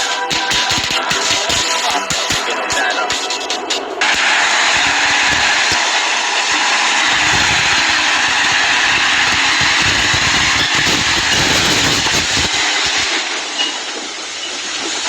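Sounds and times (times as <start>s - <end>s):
loud rushing noise: 0.0s - 14.2s.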